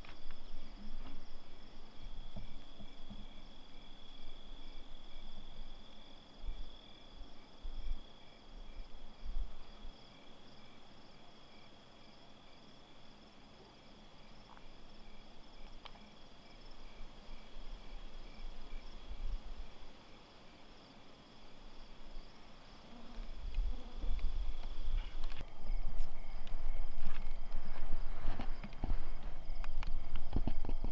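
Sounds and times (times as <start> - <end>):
insects chirping and trilling: 0.0 - 30.9.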